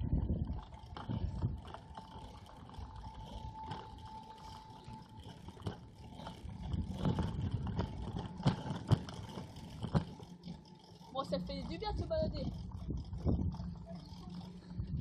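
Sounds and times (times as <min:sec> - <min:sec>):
wind buffeting microphone: 0:00.0 - 0:10.2, 0:11.2 - 0:15.0
bike rattling over paving: 0:00.0 - 0:15.0.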